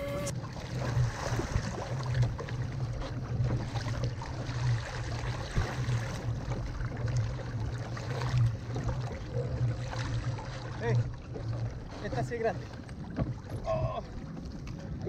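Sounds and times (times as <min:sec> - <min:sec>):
water lapping against kayak hull: 0:00.0 - 0:15.0.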